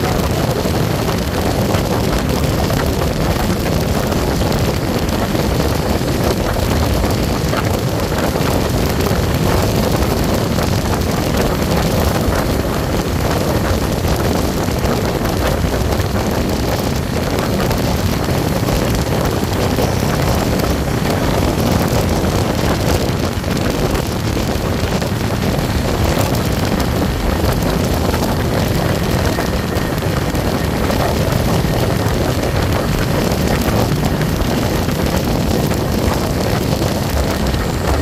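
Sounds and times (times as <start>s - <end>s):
passenger train running: 0.0s - 38.0s
wind on microphone: 0.0s - 38.0s.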